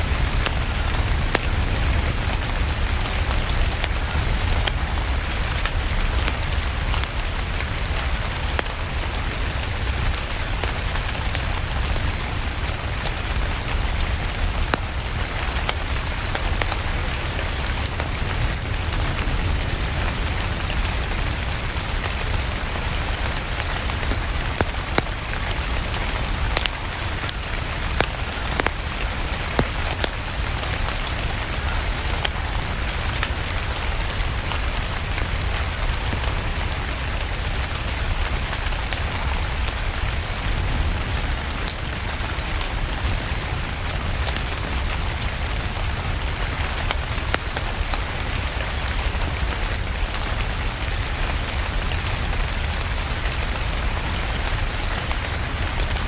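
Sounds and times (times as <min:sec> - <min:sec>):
rain falling: 0:00.0 - 0:56.0
wood fire crackling: 0:00.0 - 0:56.0.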